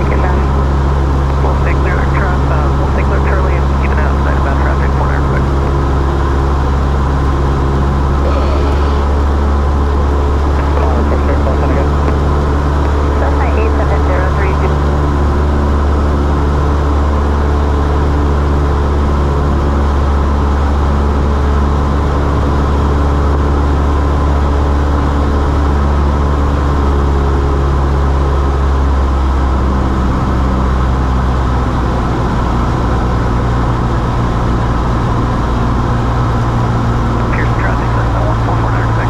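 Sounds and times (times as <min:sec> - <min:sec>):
airplane engine drone: 0:00.0 - 0:39.0.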